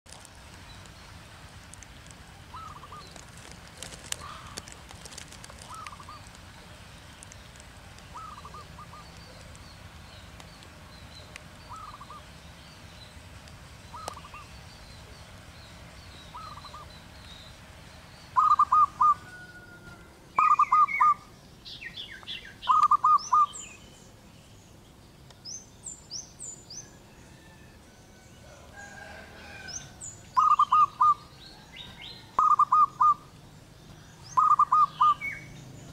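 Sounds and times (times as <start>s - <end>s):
small birds chirping: 0.1s - 35.9s
doves cooing: 1.6s - 12.4s, 13.7s - 21.4s, 22.4s - 23.8s, 26.9s - 35.9s.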